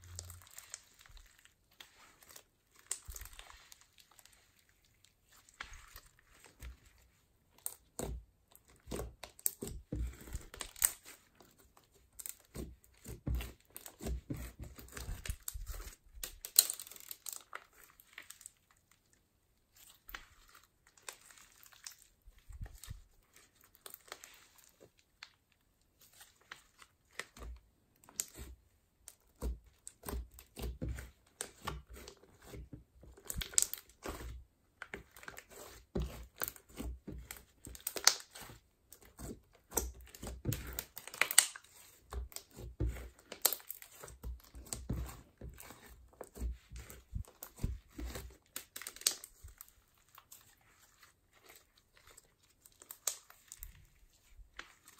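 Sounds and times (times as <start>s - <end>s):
slime crackling and squishing: 0.0s - 54.9s.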